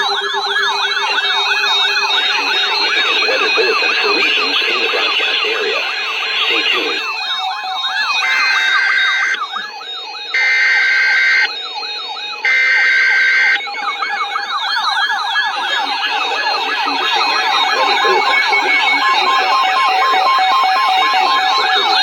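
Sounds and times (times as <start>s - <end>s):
electronic wailing siren: 0.0s - 22.0s
steady alarm tone: 0.0s - 22.0s.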